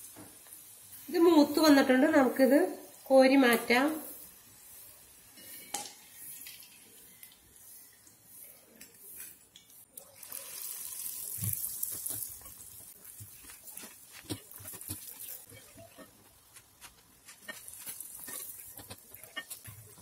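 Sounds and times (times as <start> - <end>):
oil sizzling and crackling: 0.0 - 20.0.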